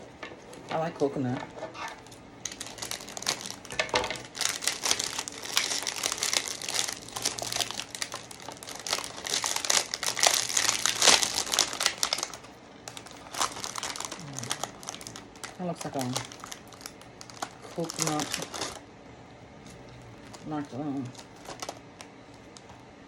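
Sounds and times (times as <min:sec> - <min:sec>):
plastic wrapper crinkling: 0:00.0 - 0:18.9, 0:19.6 - 0:23.0.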